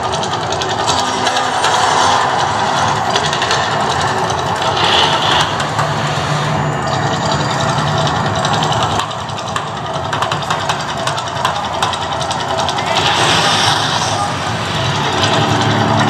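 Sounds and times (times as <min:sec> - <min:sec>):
loud steady rushing rumble: 0:00.0 - 0:16.0
low hum: 0:00.0 - 0:16.0.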